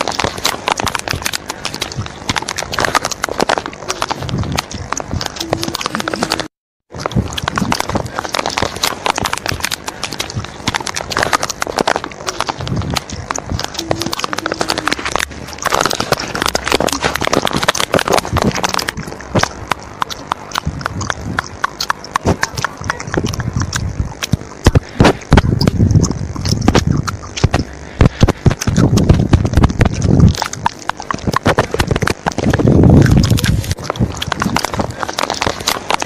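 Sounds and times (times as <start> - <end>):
rapid irregular clicking and knocking: 0.0 - 36.0.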